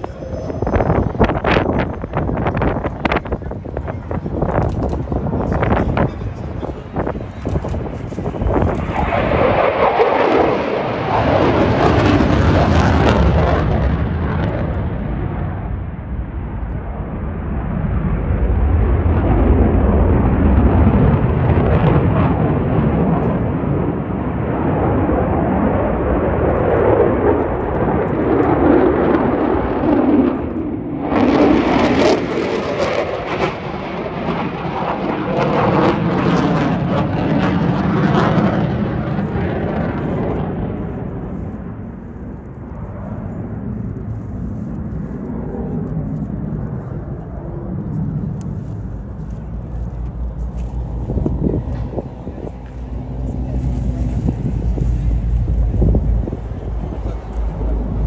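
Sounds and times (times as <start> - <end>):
jet engine crackle: 0.0 - 58.0
jet engine roar: 0.0 - 58.0.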